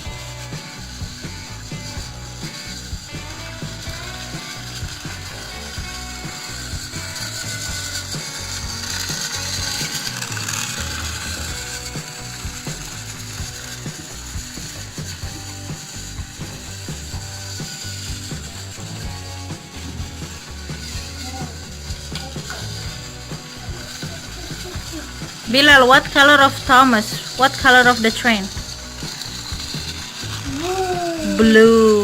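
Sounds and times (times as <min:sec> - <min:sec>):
toy train motor whirring: 0:00.0 - 0:32.0.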